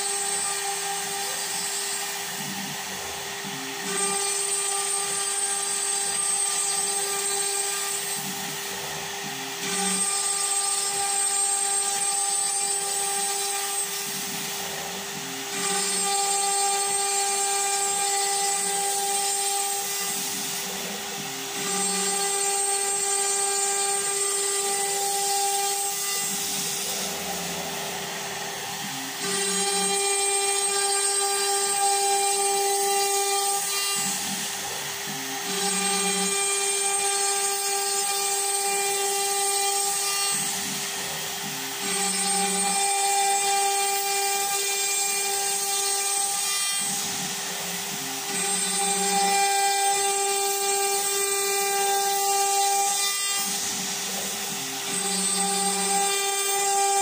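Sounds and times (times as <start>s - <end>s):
router milling plywood: 0.0s - 57.0s
router spindle whine: 0.0s - 57.0s.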